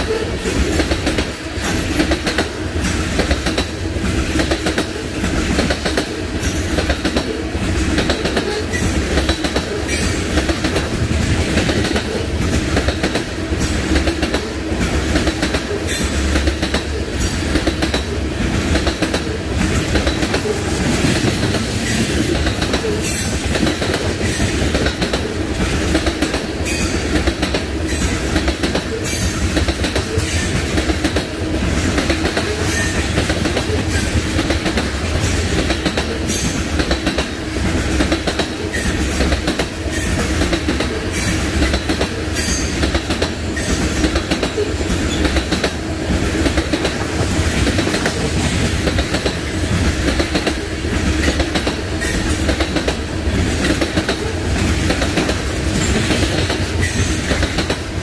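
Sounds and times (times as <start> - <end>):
freight train rumbling: 0.0 - 58.0
train wheels clacking on rails: 0.0 - 58.0.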